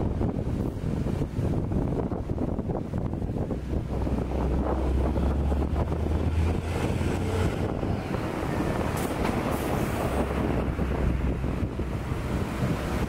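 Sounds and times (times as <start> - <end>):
deep rumble: 0.0 - 13.0
vehicles passing on wet road: 0.0 - 13.0.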